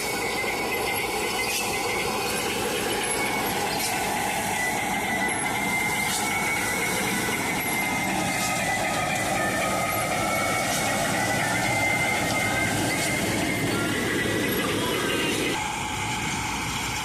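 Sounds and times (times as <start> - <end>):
high squealing tones: 0.0 - 16.6
harvesting machine running: 0.0 - 17.0.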